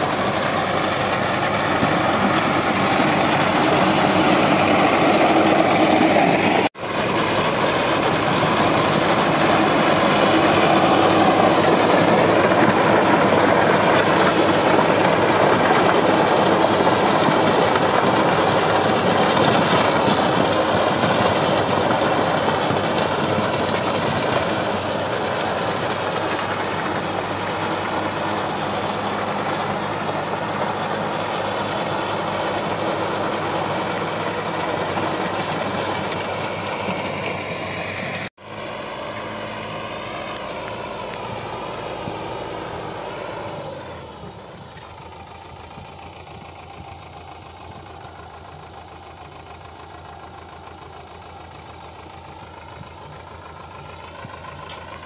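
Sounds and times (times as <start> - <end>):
rotavator churning soil: 0.0 - 46.3
tractor diesel engine: 0.0 - 55.0.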